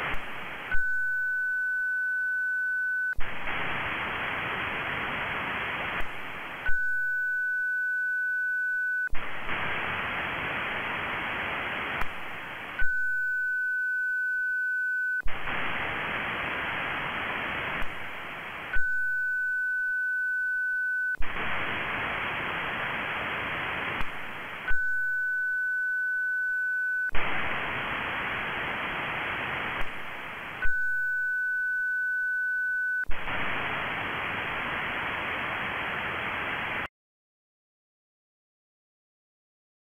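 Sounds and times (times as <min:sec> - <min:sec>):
radio receiver hiss: 0:00.0 - 0:01.9, 0:03.0 - 0:36.9.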